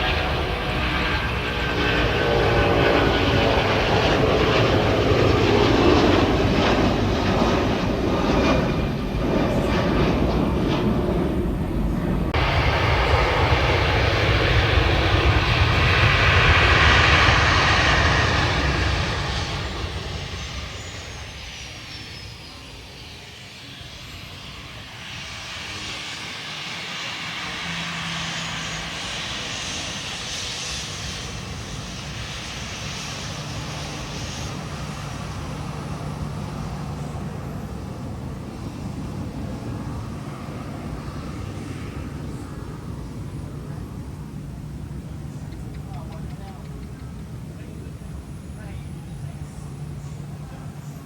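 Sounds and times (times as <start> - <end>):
jet engines passing close: 0.0 - 51.0
low jet engine hum: 0.0 - 51.0.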